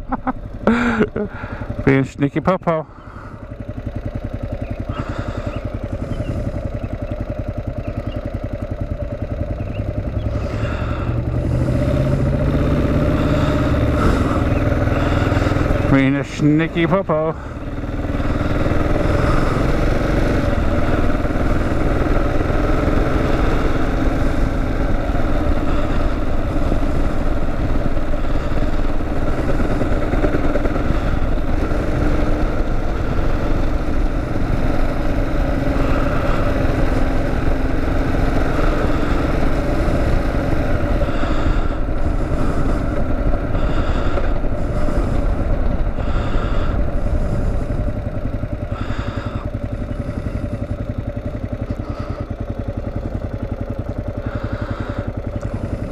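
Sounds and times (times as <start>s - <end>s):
motorcycle engine running: 0.0s - 55.9s
wind and road noise: 0.0s - 55.9s.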